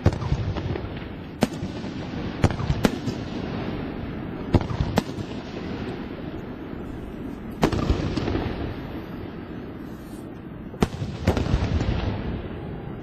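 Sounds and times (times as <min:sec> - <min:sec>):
fireworks booming and crackling: 0:00.0 - 0:13.0.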